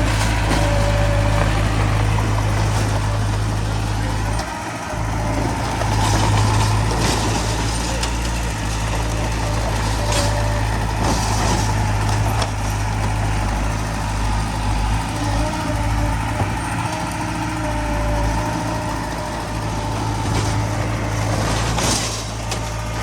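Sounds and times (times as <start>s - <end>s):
heavy diesel engines running: 0.0s - 23.0s.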